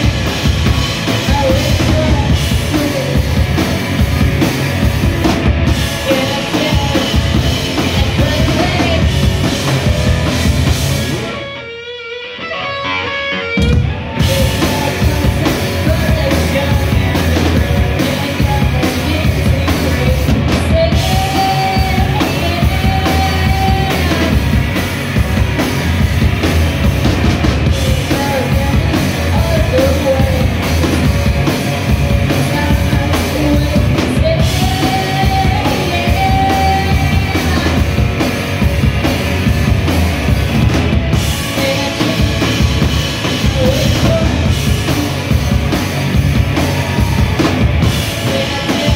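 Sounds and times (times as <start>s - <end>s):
drum kit: 0.0s - 12.2s, 12.9s - 48.9s
electric guitars: 0.0s - 48.9s.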